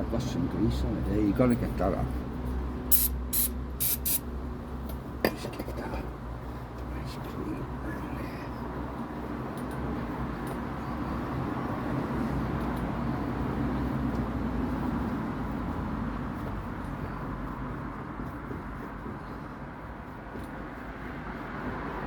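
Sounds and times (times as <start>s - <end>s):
low rumble of vehicle engine: 0.0s - 22.0s.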